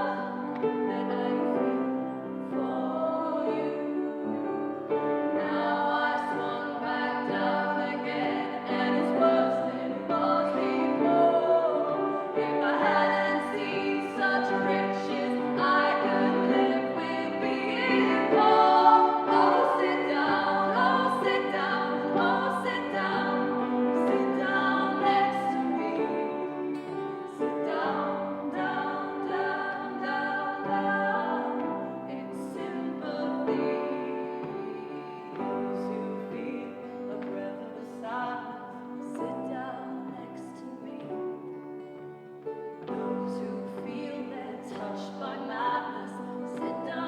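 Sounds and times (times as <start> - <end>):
women singing in harmony: 0.0 - 47.0.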